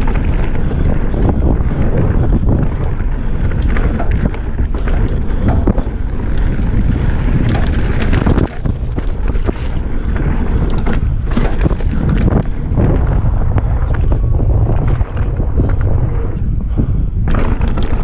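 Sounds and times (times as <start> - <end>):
bike tyres on dirt: 0.0 - 18.0
wind rumble on microphone: 0.0 - 18.0.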